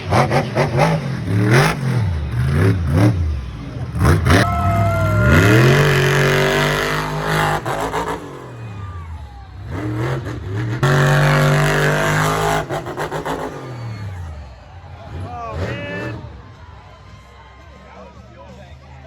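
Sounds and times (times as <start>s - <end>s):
monster truck engine revving: 0.0s - 16.9s.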